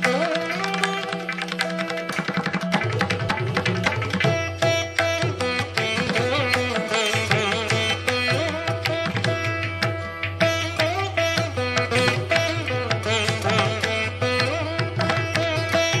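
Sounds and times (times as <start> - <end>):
plucked-string melody: 0.0 - 16.0.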